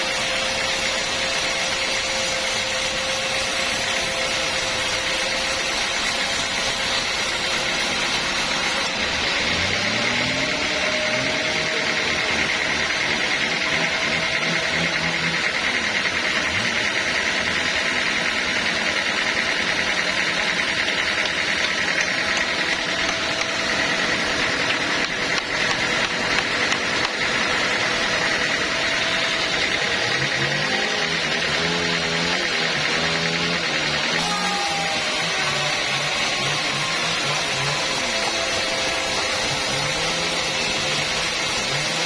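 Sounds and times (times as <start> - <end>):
saw whining through wood: 0.0 - 42.0
sawmill machinery running: 0.0 - 42.0.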